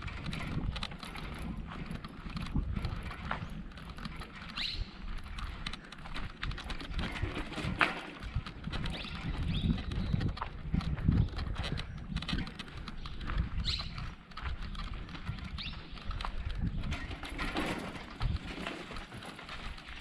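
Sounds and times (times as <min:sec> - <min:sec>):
bicycle rattling over rough ground: 0:00.0 - 0:20.0.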